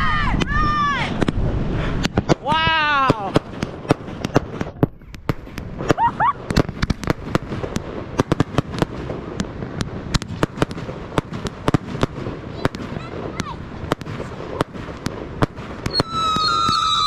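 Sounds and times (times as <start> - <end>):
fireworks cracking and popping: 0.1 - 17.0.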